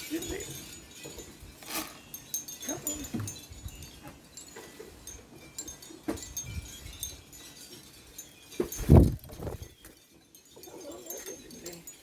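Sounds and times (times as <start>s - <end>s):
wind chimes tinkling: 0.0s - 12.0s.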